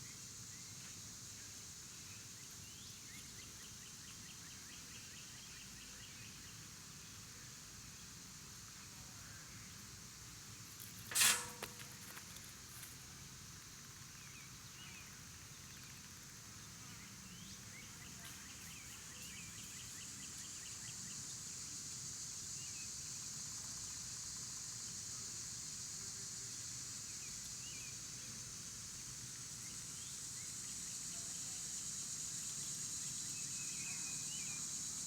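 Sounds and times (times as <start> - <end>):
steady high hiss: 5.1 - 35.0.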